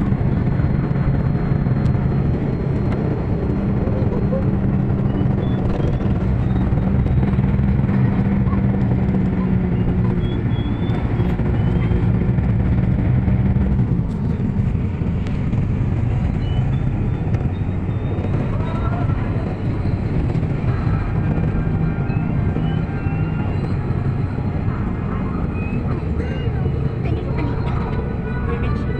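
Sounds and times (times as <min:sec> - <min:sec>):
bus engine hum: 0:00.0 - 0:28.9
road noise rushing: 0:00.0 - 0:28.9.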